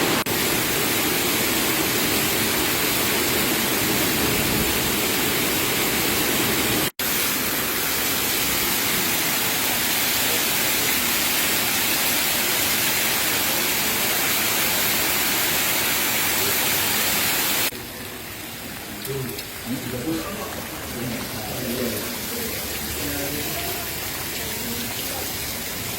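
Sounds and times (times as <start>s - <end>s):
heavy water rushing: 0.0s - 25.9s.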